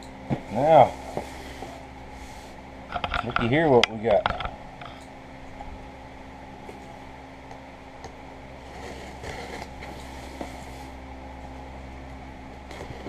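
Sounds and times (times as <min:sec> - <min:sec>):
steady shop hum: 0:00.0 - 0:13.0.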